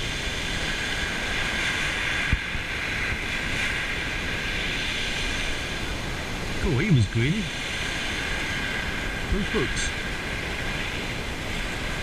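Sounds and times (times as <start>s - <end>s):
waves washing up shingle beach: 0.0s - 12.0s.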